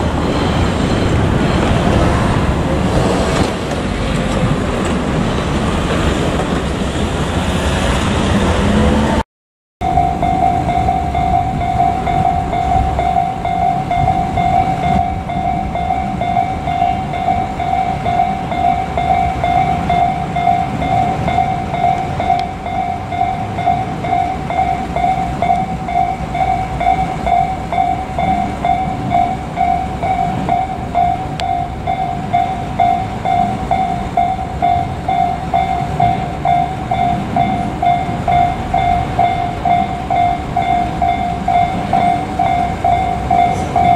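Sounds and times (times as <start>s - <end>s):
level-crossing warning bell: 0.0s - 3.0s, 9.8s - 43.9s
train rumbling: 0.0s - 9.2s, 9.8s - 43.9s.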